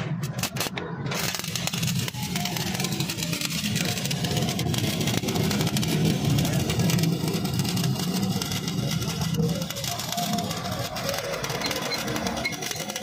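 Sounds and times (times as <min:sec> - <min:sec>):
welding arc crackling: 0:00.0 - 0:13.0.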